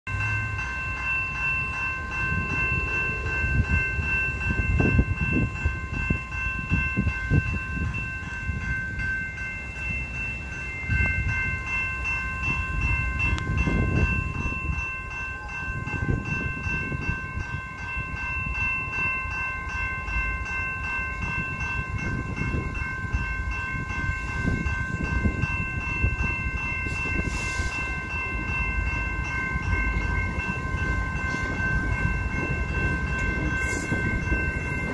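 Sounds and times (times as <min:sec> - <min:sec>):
level crossing bell ringing: 0:00.1 - 0:34.9.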